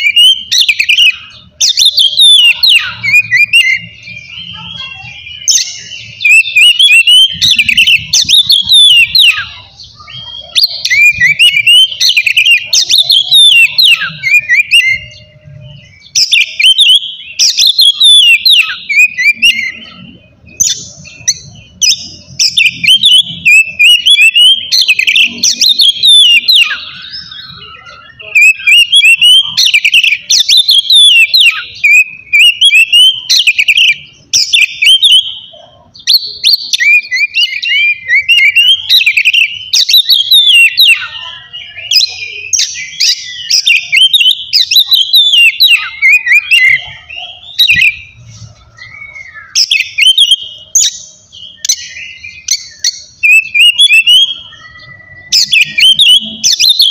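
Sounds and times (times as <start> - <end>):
magpie-robin singing: 0.0 - 56.9.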